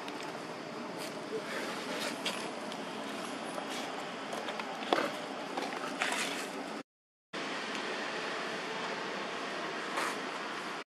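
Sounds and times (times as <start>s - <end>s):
outdoor background noise: 0.0s - 6.8s, 7.4s - 10.9s.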